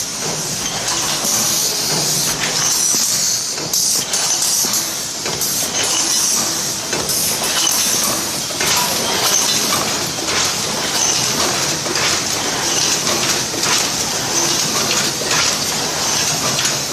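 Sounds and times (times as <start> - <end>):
can-making machine running: 0.0 - 16.9.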